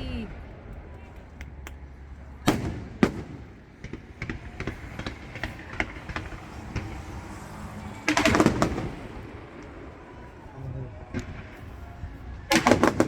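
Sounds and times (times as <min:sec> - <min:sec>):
crackling fireworks pops: 0:00.4 - 0:10.2, 0:11.0 - 0:13.0
fireworks bangs: 0:01.8 - 0:13.0.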